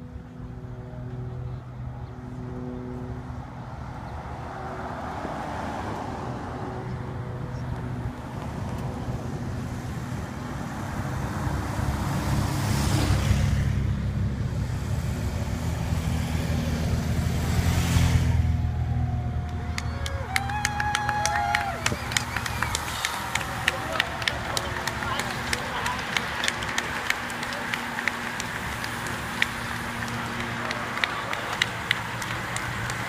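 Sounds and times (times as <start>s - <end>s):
car passing: 0.0s - 33.0s
motorcycles passing: 0.0s - 33.0s.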